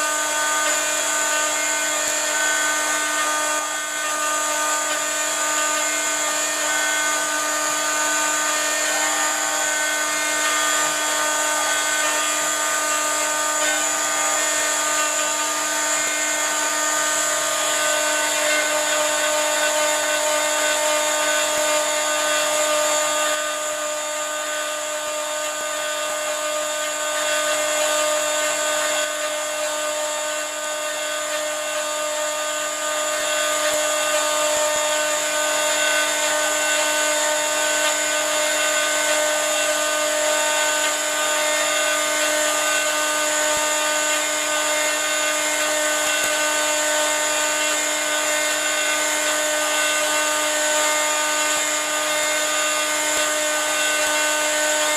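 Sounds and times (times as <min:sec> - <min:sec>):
router spindle whining: 0:00.0 - 0:54.9.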